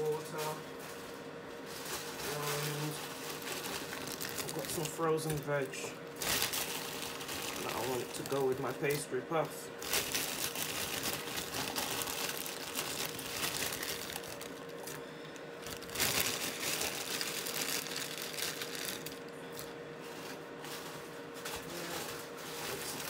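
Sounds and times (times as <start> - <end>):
faint steady hum: 0.0 - 23.0
plastic packaging crinkling: 1.6 - 9.0, 9.8 - 19.7, 21.5 - 23.0.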